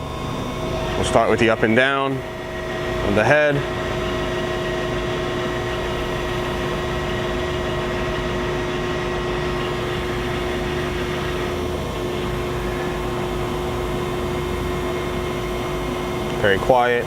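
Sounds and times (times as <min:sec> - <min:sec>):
hydraulic unit humming: 0:00.0 - 0:17.0
surface grinder running: 0:00.0 - 0:17.0.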